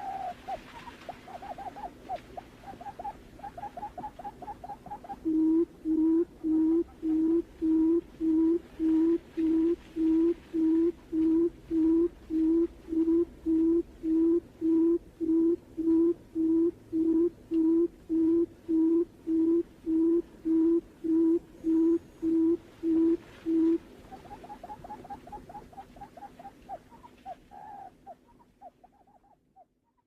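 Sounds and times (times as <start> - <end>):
bird low hooting call: 0.0 - 30.0.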